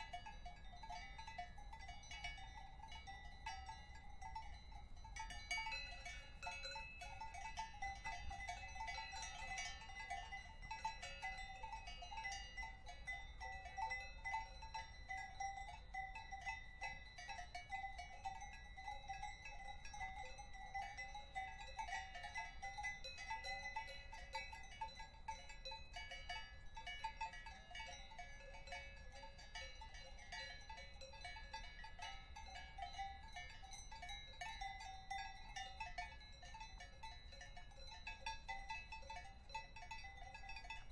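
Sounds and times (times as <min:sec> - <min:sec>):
cowbells clanking: 0:00.0 - 0:40.9.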